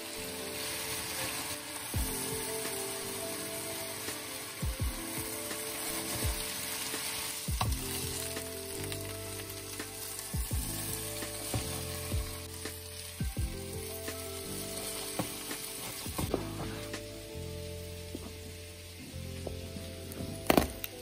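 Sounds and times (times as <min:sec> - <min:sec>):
potato sticks sizzling in oil: 0:00.0 - 0:21.0.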